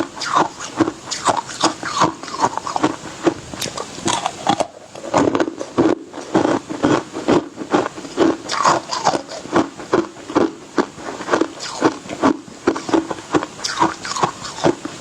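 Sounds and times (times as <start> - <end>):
ice being crunched by teeth: 0.0 - 14.8.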